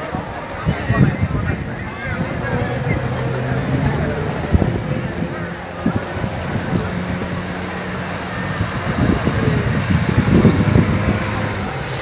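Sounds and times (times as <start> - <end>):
jet ski engine droning: 0.0 - 12.0.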